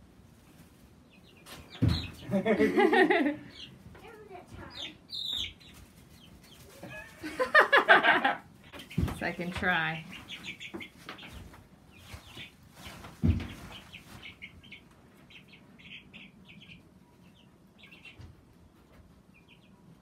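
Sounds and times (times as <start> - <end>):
baby chicks peeping: 0.2 - 20.0.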